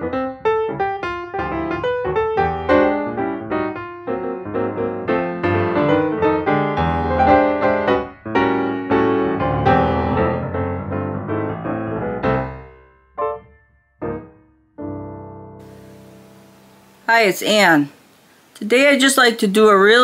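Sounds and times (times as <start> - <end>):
flowing piano music: 0.0 - 17.1.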